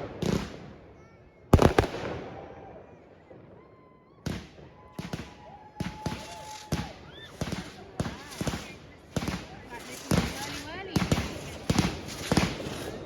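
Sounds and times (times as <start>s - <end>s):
fireworks bangs and cracks: 0.0s - 0.9s, 1.5s - 2.7s, 4.2s - 13.0s.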